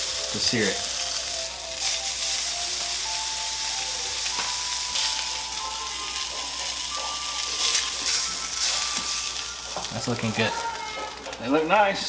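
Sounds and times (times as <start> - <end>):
steaks sizzling in a skillet: 0.0 - 12.0.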